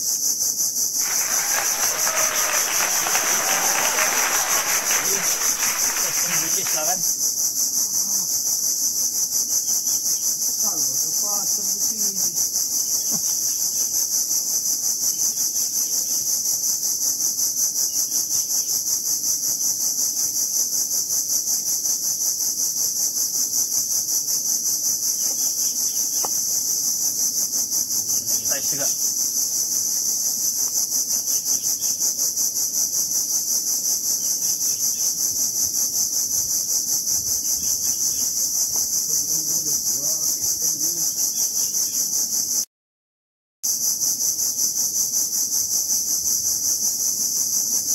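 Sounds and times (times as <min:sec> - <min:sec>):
cicadas buzzing: 0:00.0 - 0:42.6, 0:43.7 - 0:47.9.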